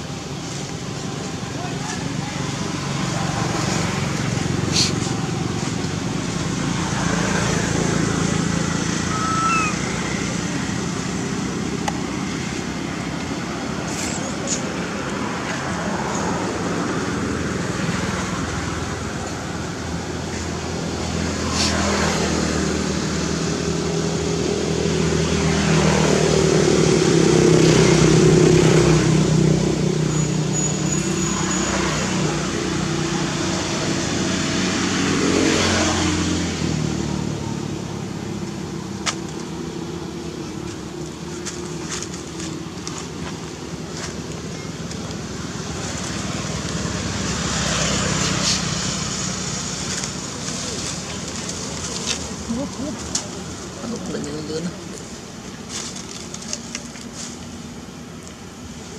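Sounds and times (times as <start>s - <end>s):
road traffic hum: 0.0s - 58.9s
vehicles passing: 0.0s - 58.9s.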